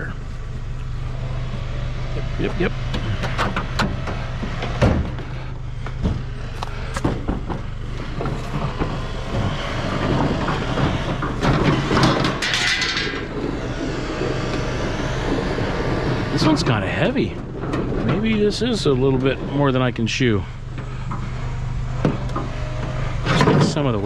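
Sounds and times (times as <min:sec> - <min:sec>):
steady low hum: 0:00.0 - 0:24.0
scraping rattle: 0:01.0 - 0:24.0
junk knocking and clattering: 0:02.2 - 0:19.4, 0:20.6 - 0:24.0.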